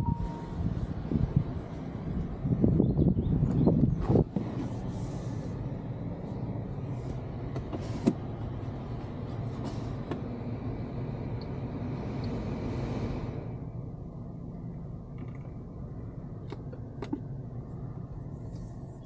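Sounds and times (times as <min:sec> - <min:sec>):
low cabin hum: 0:00.0 - 0:19.0.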